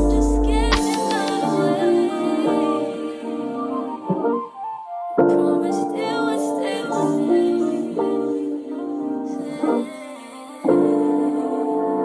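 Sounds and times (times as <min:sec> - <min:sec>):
soft song with piano: 0:00.0 - 0:12.0.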